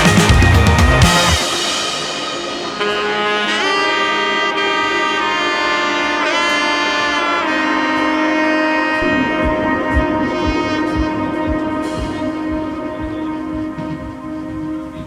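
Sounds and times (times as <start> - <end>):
music with swooping pitch bends: 0.0 - 15.0.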